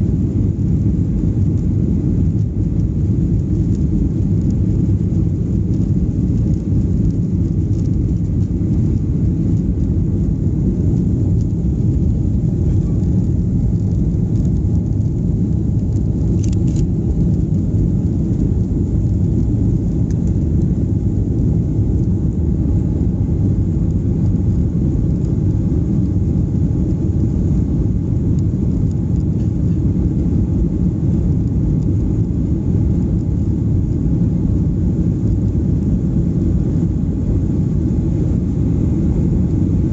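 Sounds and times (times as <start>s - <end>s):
jet cabin engine rumble: 0.0s - 39.9s.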